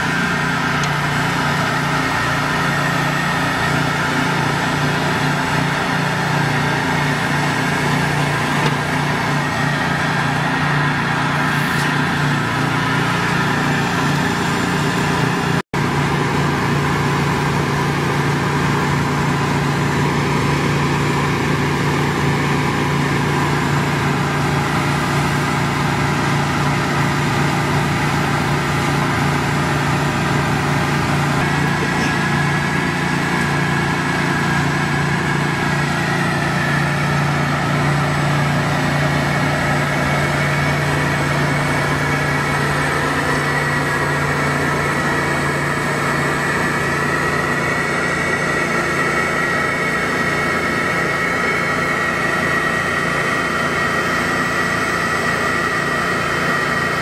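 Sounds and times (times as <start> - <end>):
pressure washer engine humming: 0.0 - 57.0.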